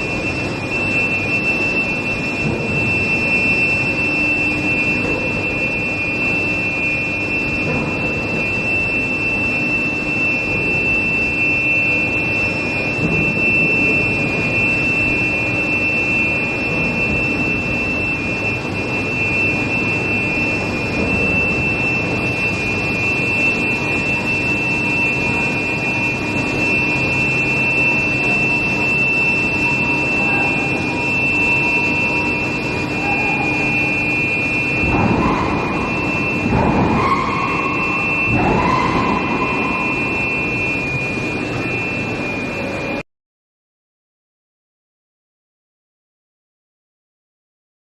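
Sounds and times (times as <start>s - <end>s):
furnace high-pitched whine: 0.0s - 43.0s
mechanical hum: 0.0s - 43.0s.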